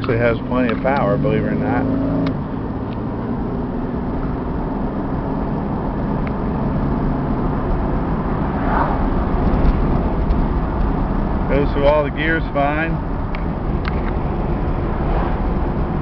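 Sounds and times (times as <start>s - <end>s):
car engine accelerating: 0.0s - 16.0s
road noise inside car: 0.0s - 16.0s.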